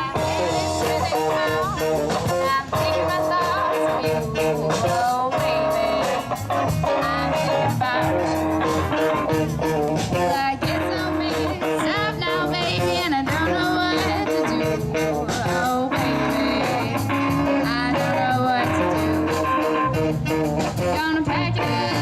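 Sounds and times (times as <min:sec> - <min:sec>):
live blues-rock band: 0:00.0 - 0:22.0
wavering lead melody: 0:00.0 - 0:22.0.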